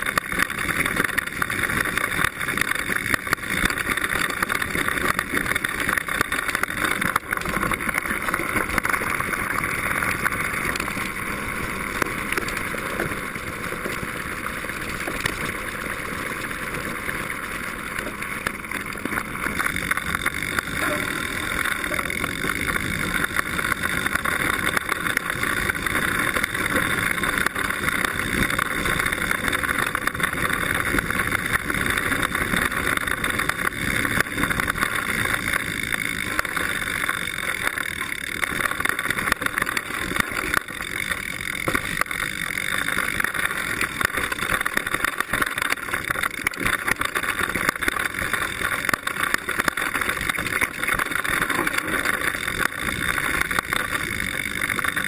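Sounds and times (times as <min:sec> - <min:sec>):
bike parts rattling: 0:00.0 - 0:55.0.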